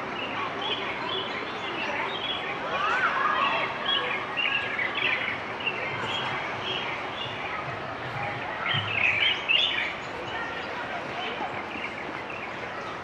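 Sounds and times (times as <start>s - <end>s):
background hubbub: 0.0s - 13.0s
birds chirping: 0.1s - 13.0s.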